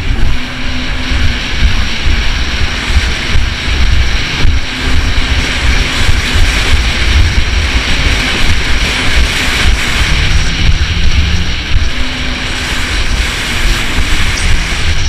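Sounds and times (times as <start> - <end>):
jet ski engine: 0.0 - 15.0
water noise: 0.0 - 15.0
wind buffeting microphone: 0.0 - 15.0.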